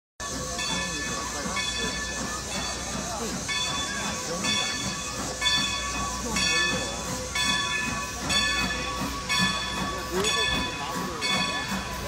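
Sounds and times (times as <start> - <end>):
faint voices: 0.2 - 12.0
locomotive bell ringing: 0.2 - 12.0
steam hissing: 0.2 - 12.0.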